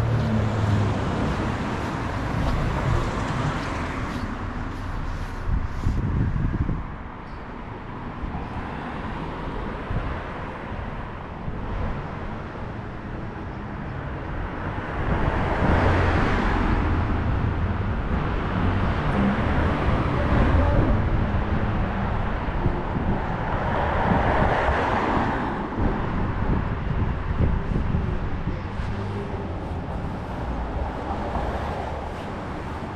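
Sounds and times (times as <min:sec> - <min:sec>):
cars driving past: 0:00.0 - 0:32.9.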